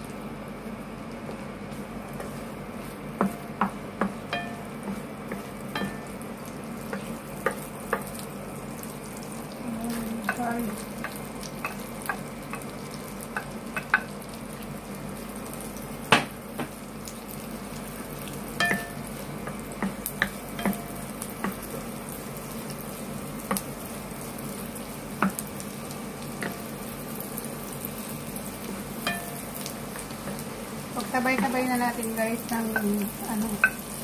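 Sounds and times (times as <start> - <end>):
garlic sizzling in butter: 0.0 - 34.0.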